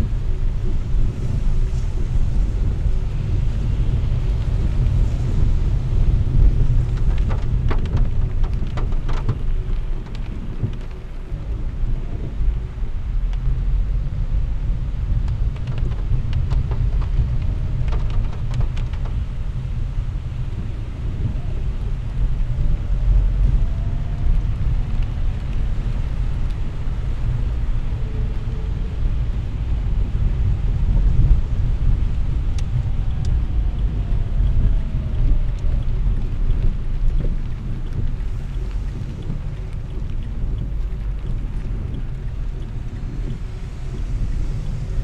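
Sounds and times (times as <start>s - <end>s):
car rumble on wet road: 0.0s - 45.0s
rain on the windshield: 0.0s - 45.0s.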